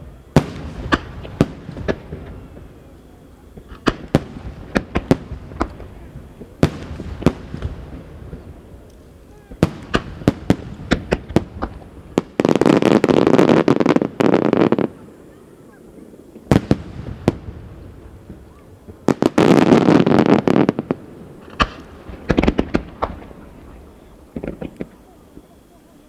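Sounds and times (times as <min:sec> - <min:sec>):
fireworks bursting: 0:00.0 - 0:26.0
fireworks crackle: 0:00.0 - 0:26.0.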